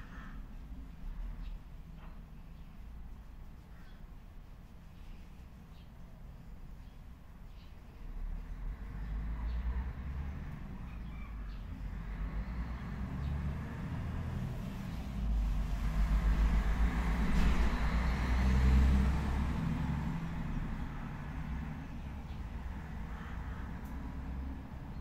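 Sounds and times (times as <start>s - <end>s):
road noise: 0.0s - 25.0s
vehicle engine rumble passing: 0.0s - 25.0s.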